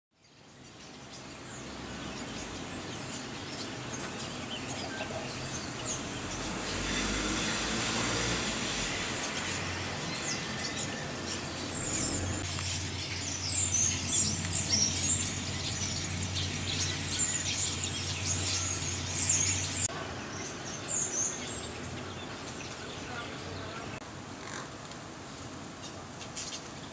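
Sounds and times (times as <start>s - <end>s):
starlings chattering: 0.2s - 24.7s.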